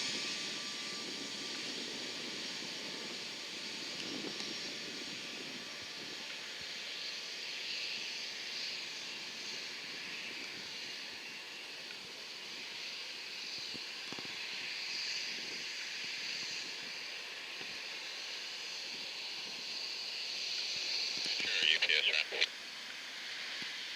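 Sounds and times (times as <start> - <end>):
jet engines hissing: 0.0 - 23.9.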